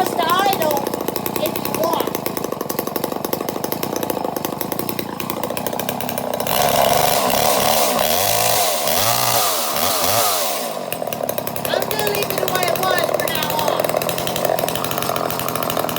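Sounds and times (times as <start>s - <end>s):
chainsaw engine revving: 0.0s - 15.9s.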